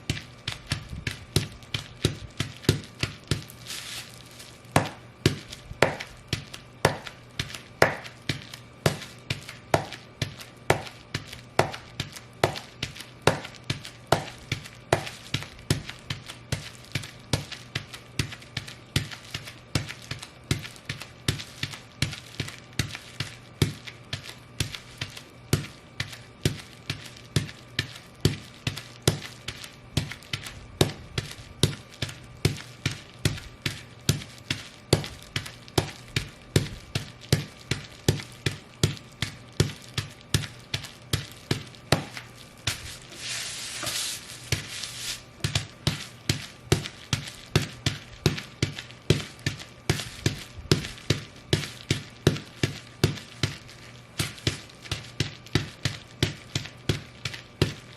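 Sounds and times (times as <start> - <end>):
boots stomping on bubble wrap: 0.0 - 57.9
bubble wrap popping: 0.0 - 57.9.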